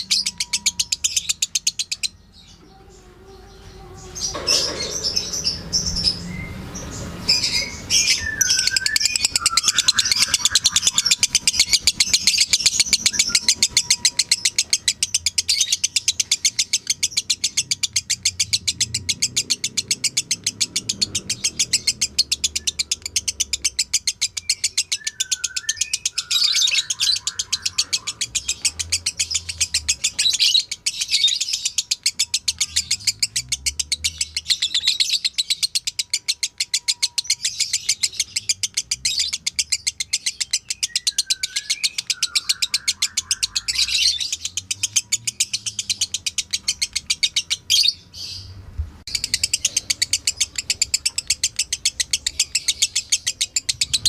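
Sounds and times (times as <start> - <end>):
lovebird chattering song: 0.0 - 48.5, 49.1 - 54.0.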